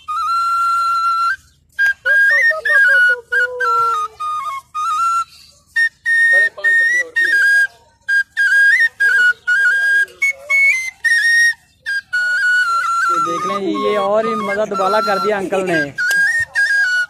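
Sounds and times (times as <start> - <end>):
flute melody: 0.0 - 17.0.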